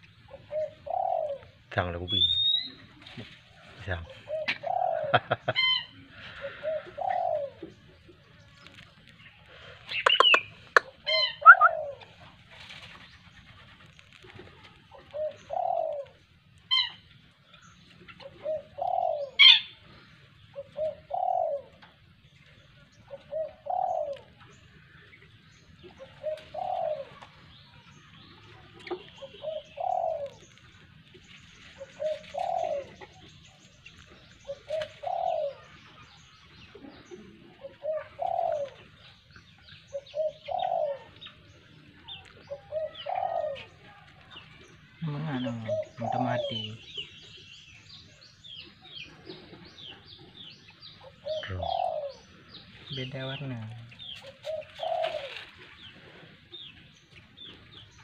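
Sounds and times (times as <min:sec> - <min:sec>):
dove cooing: 0:00.0 - 0:08.8, 0:09.5 - 0:47.2, 0:48.4 - 0:57.9.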